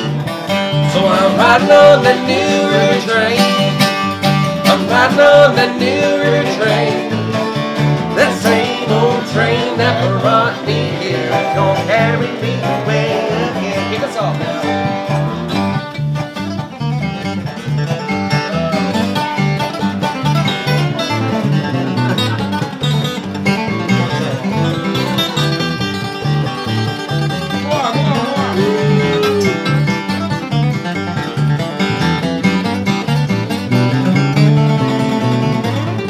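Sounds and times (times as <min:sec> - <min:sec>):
country string band playing: 0:00.0 - 0:36.0
sliding guitar notes: 0:00.0 - 0:36.0.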